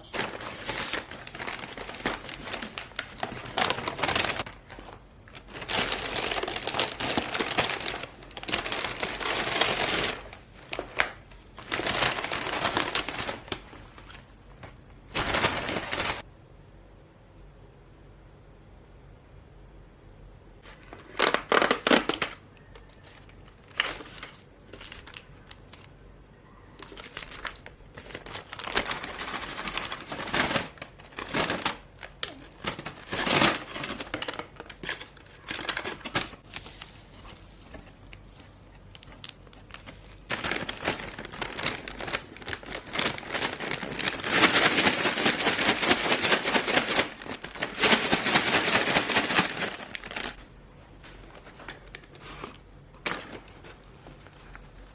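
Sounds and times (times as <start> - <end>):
packaging crinkling and tearing: 0.0 - 16.3, 20.6 - 26.1, 26.7 - 54.9.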